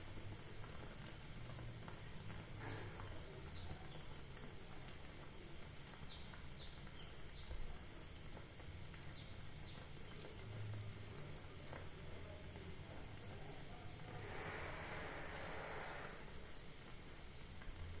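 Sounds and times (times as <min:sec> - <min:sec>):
gas burner rumbling: 0:00.0 - 0:18.0.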